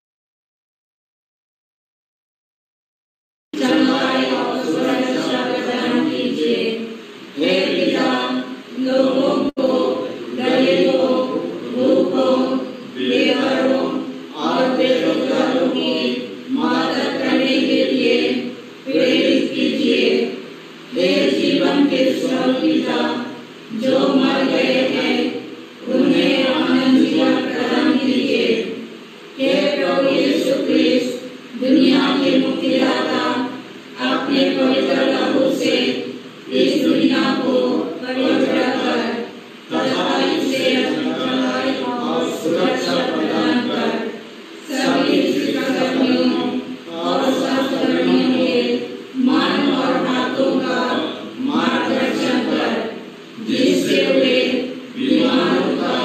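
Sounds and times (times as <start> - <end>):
group chanting a prayer: 3.6 - 56.0.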